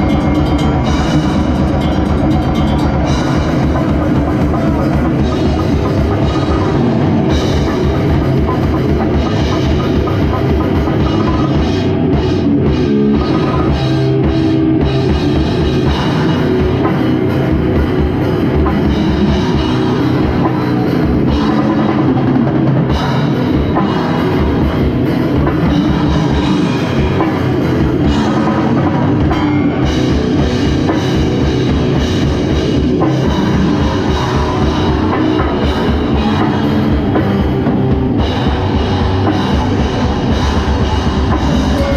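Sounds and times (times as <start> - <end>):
band playing heavy music: 0.0 - 41.9
fast kick drum pattern: 0.0 - 41.9.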